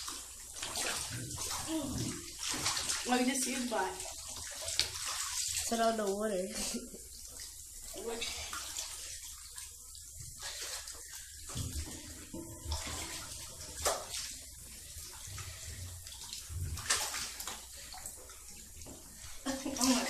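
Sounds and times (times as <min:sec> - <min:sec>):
water splashing in bathtub: 0:00.0 - 0:20.0.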